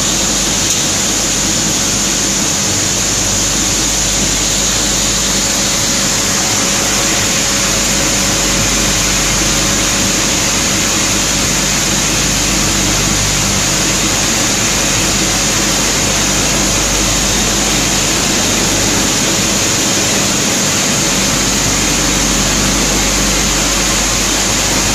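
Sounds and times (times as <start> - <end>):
machinery running with high whine: 0.0 - 24.9.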